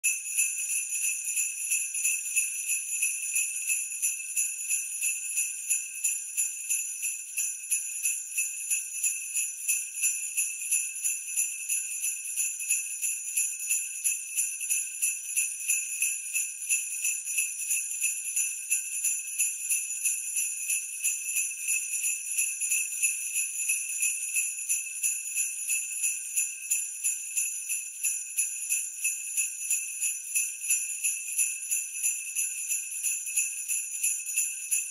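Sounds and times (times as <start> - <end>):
sleigh bells jingling: 0.0 - 34.9.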